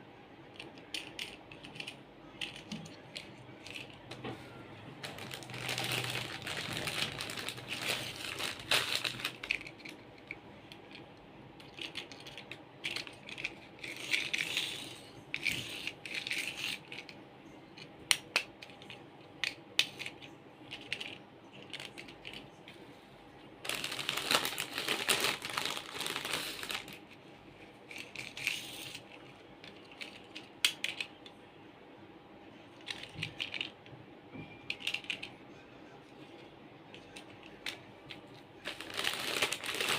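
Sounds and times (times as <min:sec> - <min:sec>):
faint steady hum: 0:00.0 - 0:39.9
plastic toy clicks and rattles: 0:00.5 - 0:04.2, 0:05.0 - 0:17.2, 0:17.8 - 0:22.6, 0:23.7 - 0:27.0, 0:27.9 - 0:31.3, 0:32.8 - 0:33.8, 0:34.7 - 0:35.4, 0:36.9 - 0:39.9.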